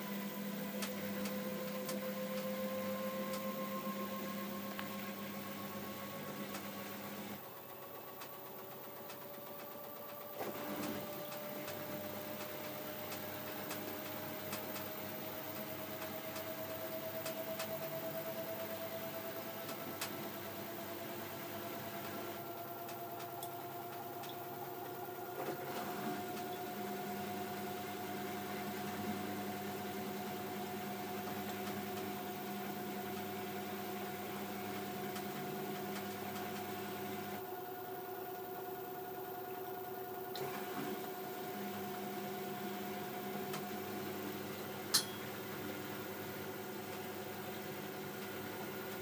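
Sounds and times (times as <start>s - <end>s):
steady hum: 0.0s - 49.0s
washer-dryer motor whine: 0.0s - 49.0s.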